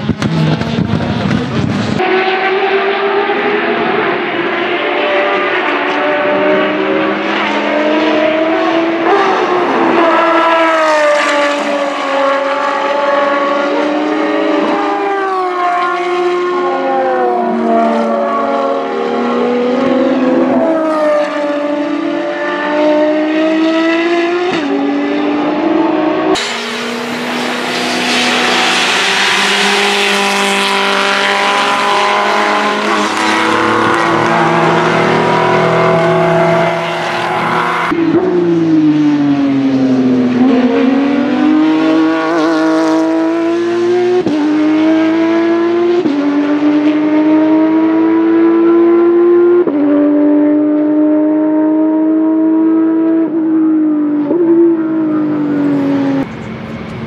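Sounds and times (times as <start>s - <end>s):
racing car engine revving: 0.0s - 57.0s.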